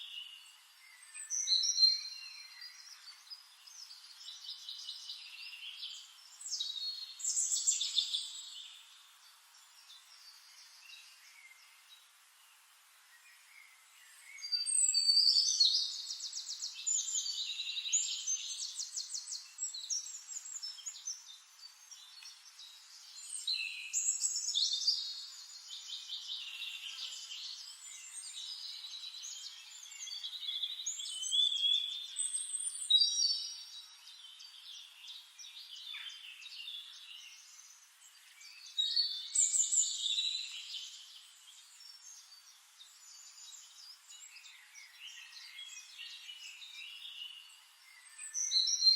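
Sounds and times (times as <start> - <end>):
songbirds trilling and chirping: 0.0 - 48.9.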